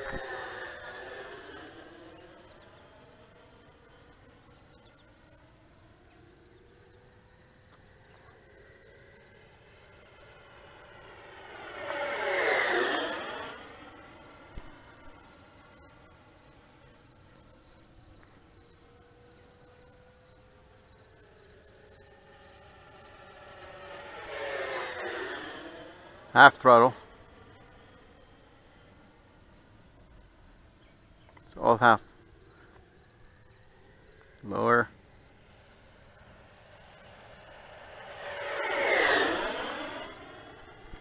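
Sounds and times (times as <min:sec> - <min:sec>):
electric jet fan whine: 0:00.0 - 0:41.0
high insect trill: 0:00.0 - 0:41.0.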